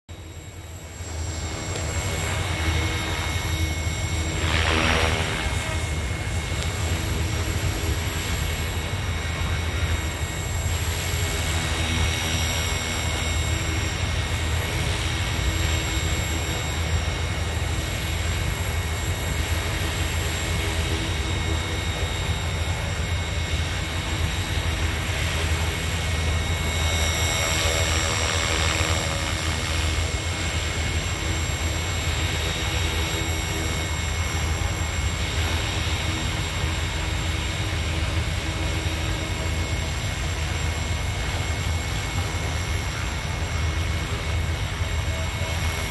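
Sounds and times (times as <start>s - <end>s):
high motor whine: 0.1s - 45.9s
model helicopter rotor drone: 0.1s - 45.9s.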